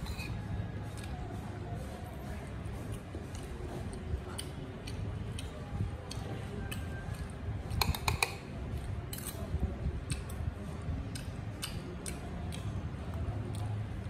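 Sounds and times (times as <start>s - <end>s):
chewing crunchy shrimp: 2.6s - 14.0s.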